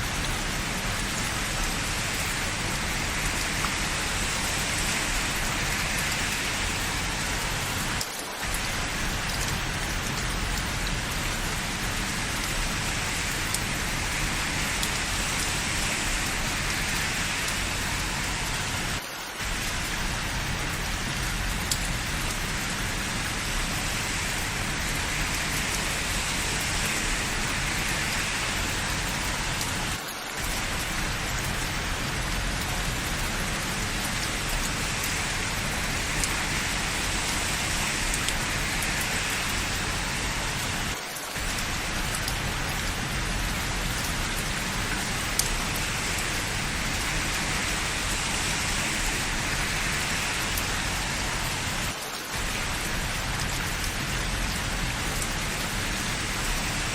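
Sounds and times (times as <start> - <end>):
dense rain falling: 0.0 - 56.9
raindrop ticks: 0.1 - 56.9.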